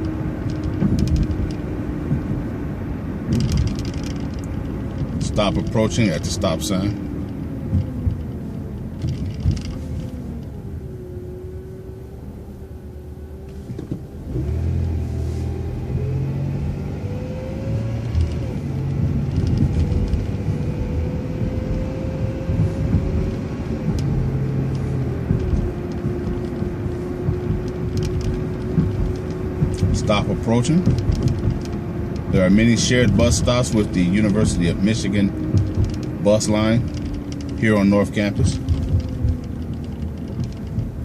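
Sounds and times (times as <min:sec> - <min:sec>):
bus engine: 0:00.0 - 0:41.0
whining tone: 0:03.3 - 0:41.0.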